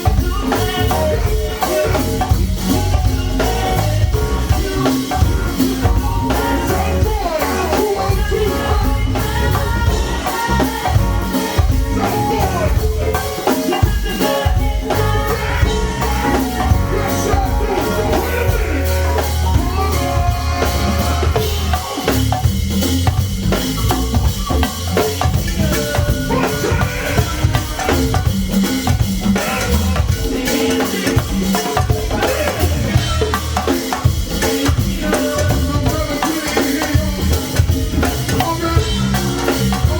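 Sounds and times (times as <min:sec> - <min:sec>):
drum kit and percussion: 0:00.0 - 0:39.9
heavy bass line: 0:00.0 - 0:39.9.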